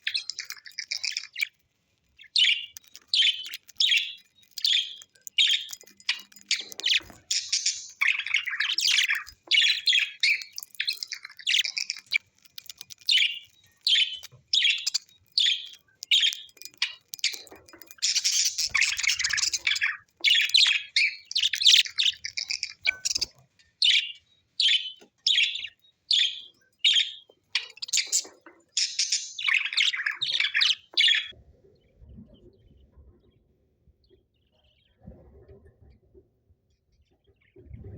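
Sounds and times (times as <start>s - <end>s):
birds chirping: 0.0s - 31.4s.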